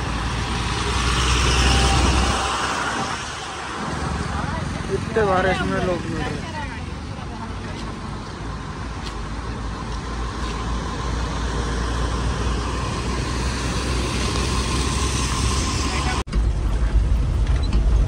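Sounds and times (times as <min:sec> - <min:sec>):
road noise: 0:00.0 - 0:18.0
truck engine running: 0:00.0 - 0:18.0.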